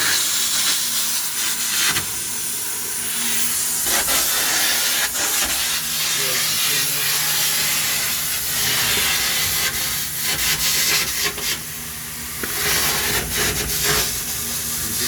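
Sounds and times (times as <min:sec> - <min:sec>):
steady loud hiss: 0:00.0 - 0:15.0
low machine hum: 0:02.1 - 0:15.0.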